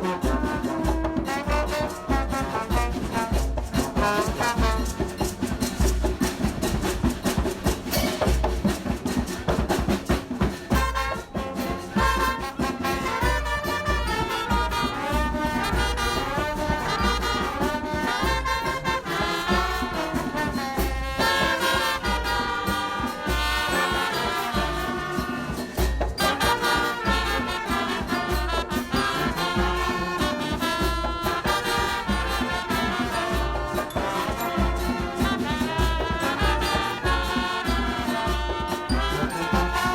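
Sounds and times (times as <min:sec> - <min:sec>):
brass music with steady beat: 0:00.0 - 0:39.9.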